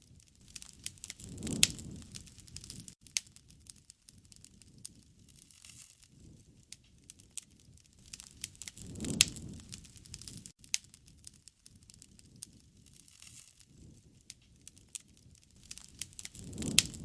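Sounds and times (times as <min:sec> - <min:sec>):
sharp fire pops: 0:00.0 - 0:17.0
wood fire crackling: 0:00.0 - 0:17.0.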